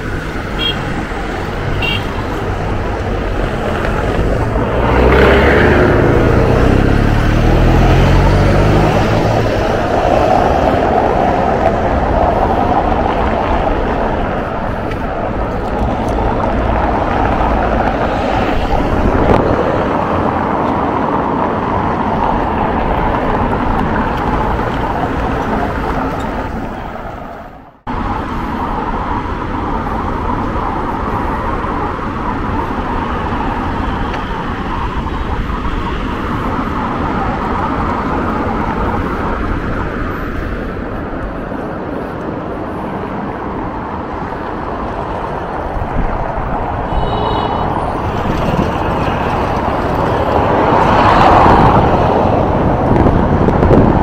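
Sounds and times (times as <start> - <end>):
road traffic: 0.0 - 54.0.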